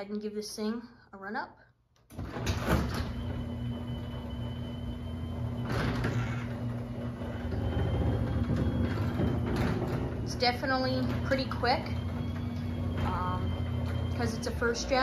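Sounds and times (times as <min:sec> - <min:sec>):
garage door opener motor hum: 0:02.0 - 0:15.0.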